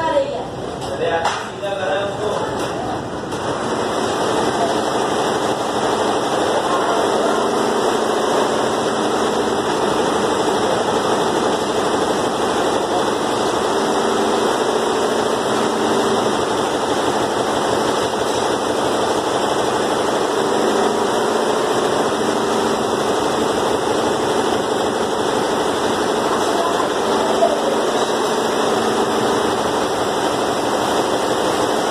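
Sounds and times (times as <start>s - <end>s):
loud machine running: 0.0s - 31.9s.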